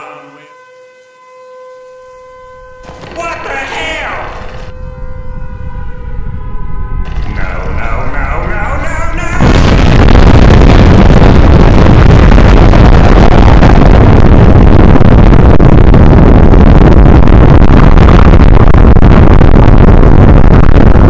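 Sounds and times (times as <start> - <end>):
explosion rumbling roar: 2.8 - 21.0.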